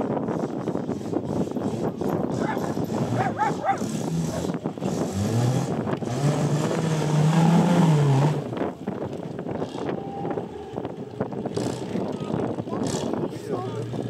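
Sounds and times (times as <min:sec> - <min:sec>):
buggy engine revving hard: 0:00.0 - 0:14.0.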